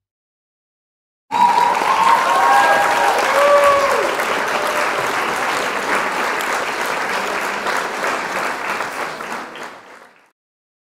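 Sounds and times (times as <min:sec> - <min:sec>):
crowd applauding: 0:01.3 - 0:10.4.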